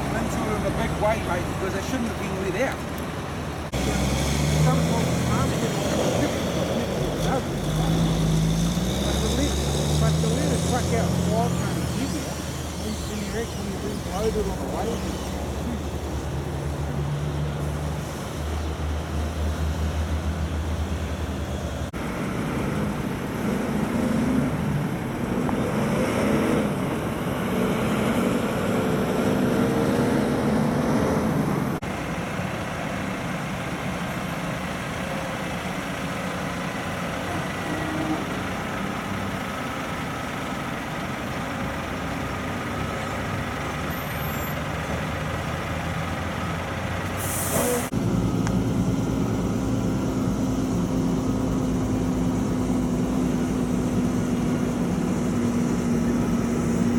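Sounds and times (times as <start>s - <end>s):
diesel trucks driving past: 0.0s - 56.9s
tyre and road noise: 0.0s - 56.9s.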